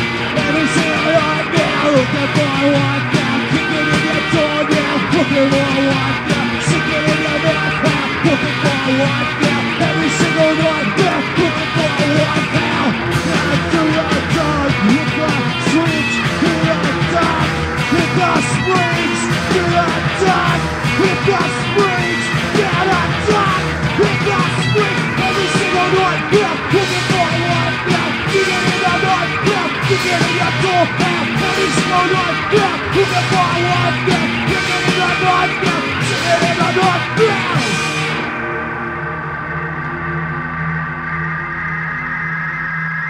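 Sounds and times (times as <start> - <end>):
shouted vocals: 0.0 - 37.8
garage punk song: 0.0 - 43.0.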